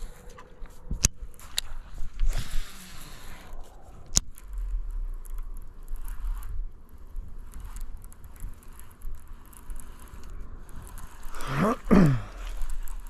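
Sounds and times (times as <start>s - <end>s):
low rumble: 0.0s - 11.5s
reel ticking and scraping: 0.0s - 13.0s
fishing reel click: 1.0s - 13.0s.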